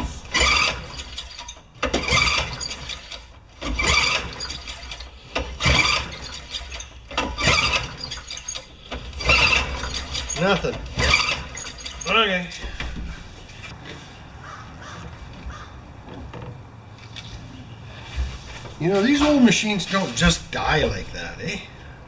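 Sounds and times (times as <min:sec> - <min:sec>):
lawn mower recoil starter whirring: 0:00.0 - 0:14.2, 0:14.9 - 0:21.7
engine cranking without firing: 0:00.0 - 0:22.0.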